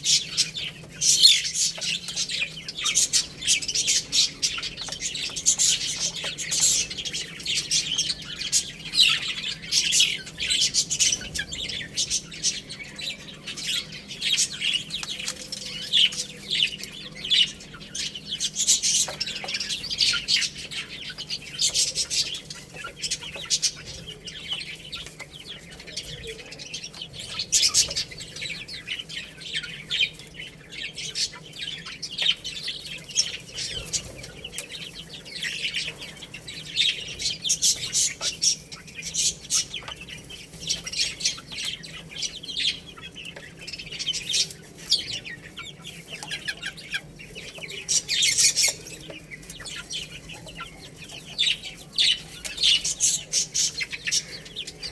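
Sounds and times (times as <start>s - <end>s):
baby chicks peeping: 0.0s - 54.9s.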